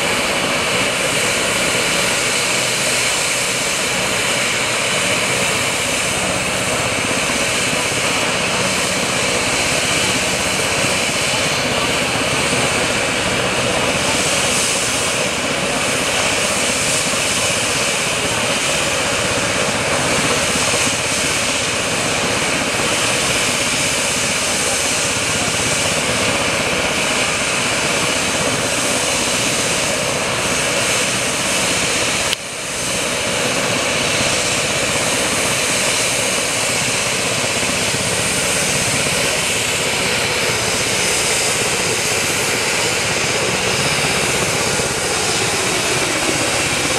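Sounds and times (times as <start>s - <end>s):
helicopter rotor rush: 0.0s - 46.9s
helicopter turbine whine: 0.0s - 46.9s.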